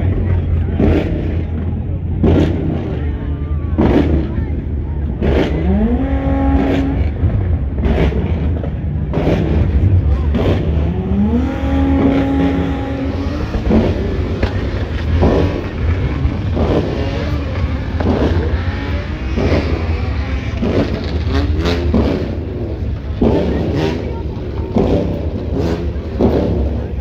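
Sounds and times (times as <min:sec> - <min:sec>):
car engine revving: 0:00.0 - 0:27.0
car engines running: 0:00.0 - 0:27.0
voices: 0:00.0 - 0:27.0.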